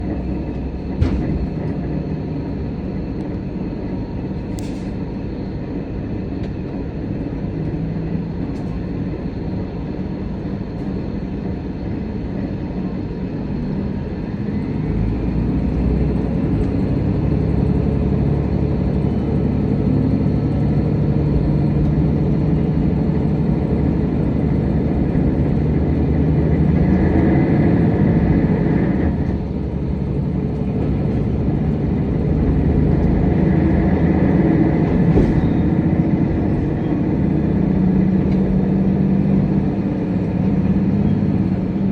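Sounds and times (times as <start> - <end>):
diesel railcar rumble: 0.0 - 41.9.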